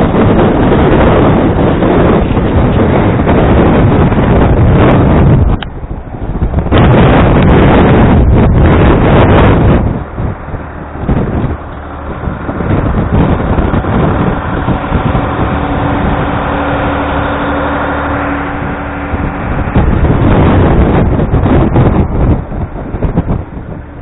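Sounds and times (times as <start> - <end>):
blizzard wind buffeting microphone: 0.0 - 24.0
steady low hum: 0.0 - 24.0.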